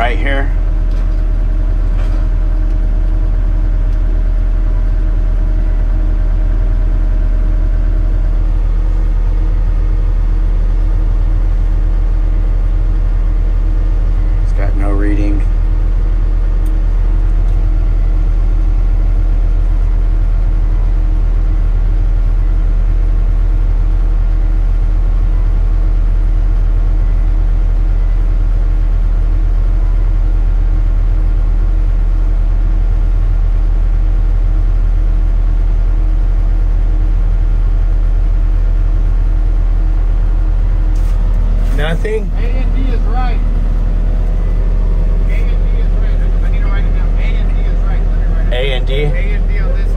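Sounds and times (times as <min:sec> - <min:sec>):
loader engine droning: 0:00.0 - 0:49.9.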